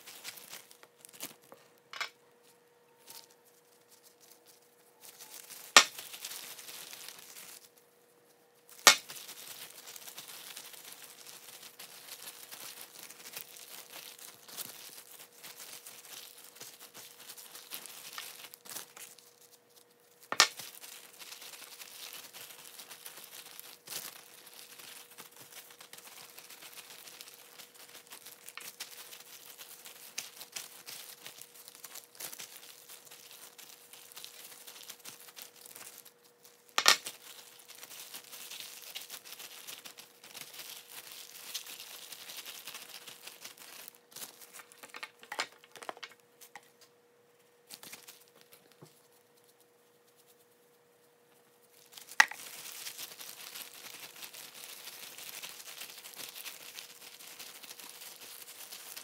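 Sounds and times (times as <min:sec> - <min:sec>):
plastic glove crinkling: 0:00.0 - 0:59.0.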